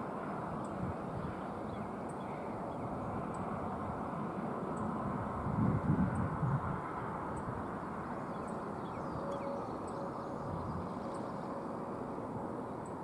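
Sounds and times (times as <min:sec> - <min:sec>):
distant freight train rumble: 0:00.0 - 0:13.0.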